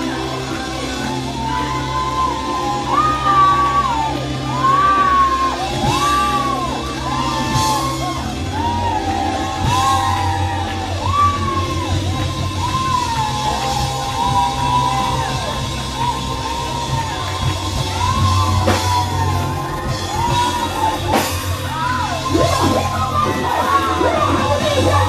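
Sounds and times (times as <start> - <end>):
bass line: 0.0 - 25.0
gospel praise music: 0.0 - 25.0.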